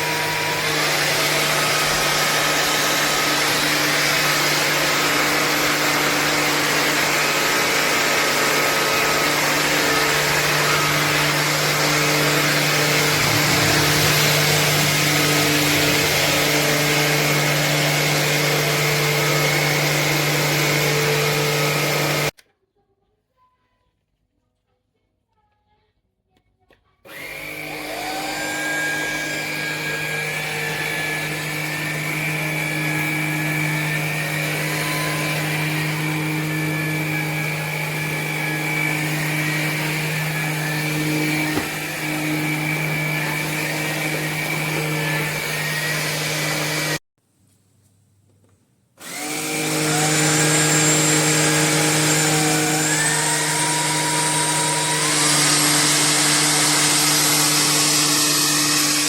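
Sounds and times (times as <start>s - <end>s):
cordless stick vacuum running: 0.0s - 22.4s, 27.1s - 47.0s, 49.0s - 59.0s.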